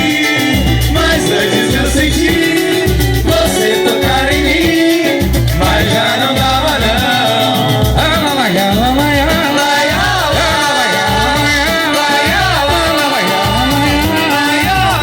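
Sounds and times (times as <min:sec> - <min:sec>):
instrumental samba band music: 0:00.0 - 0:15.0.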